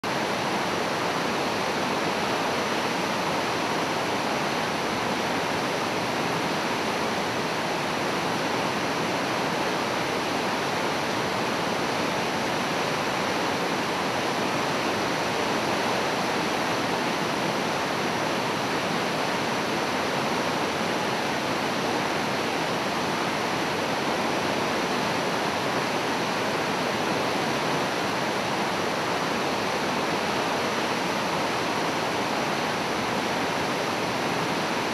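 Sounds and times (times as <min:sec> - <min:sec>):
river rapids rushing: 0:00.1 - 0:34.9.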